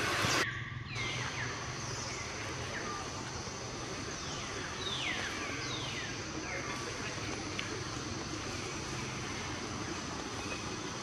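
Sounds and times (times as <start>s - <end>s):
loud hiss: 0.0s - 0.4s, 1.0s - 11.0s
steady low hum: 0.0s - 11.0s.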